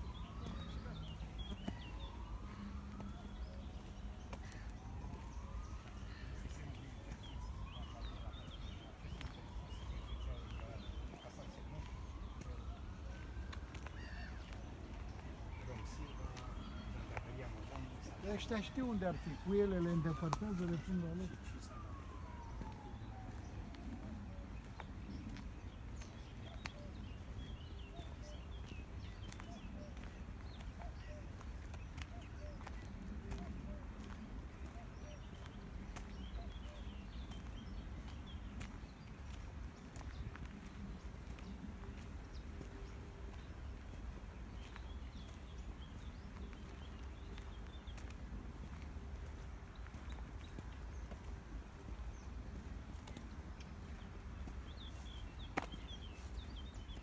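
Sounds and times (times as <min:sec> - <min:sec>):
distant siren: 0:00.0 - 0:57.0
small birds chirping: 0:00.0 - 0:57.0.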